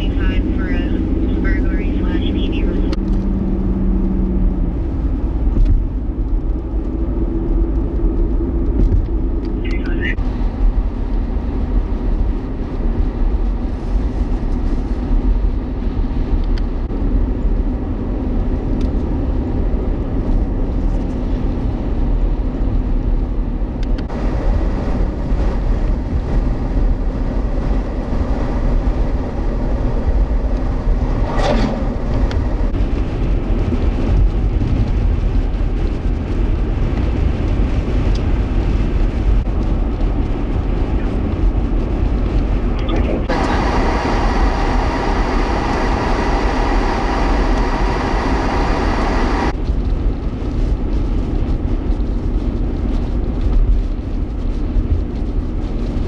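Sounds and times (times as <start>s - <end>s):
vehicle rumbling on road: 0.0s - 56.0s.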